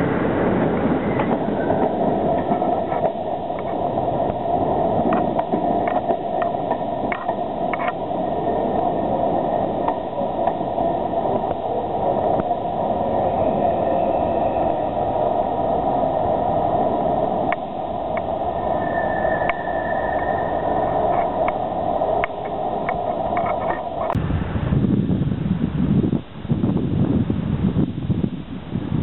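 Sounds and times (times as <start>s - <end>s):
rumble and hum of trains: 0.0s - 29.0s.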